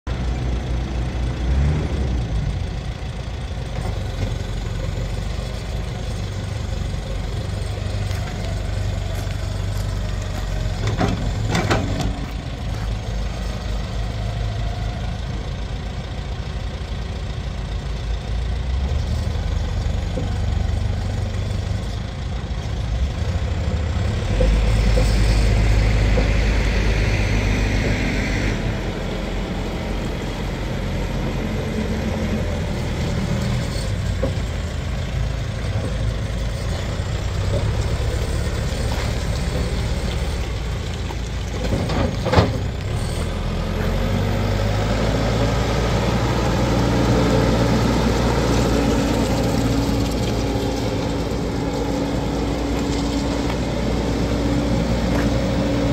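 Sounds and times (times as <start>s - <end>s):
backhoe diesel engine running: 0.1s - 55.9s.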